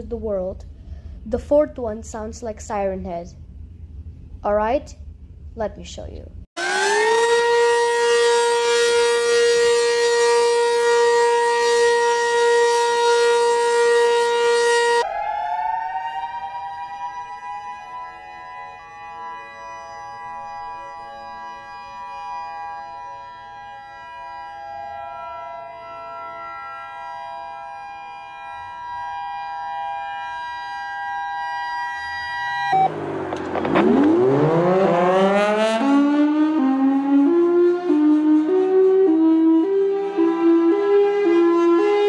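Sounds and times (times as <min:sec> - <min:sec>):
droning siren chord: 0:06.6 - 0:42.0
siren winding up: 0:06.6 - 0:42.0.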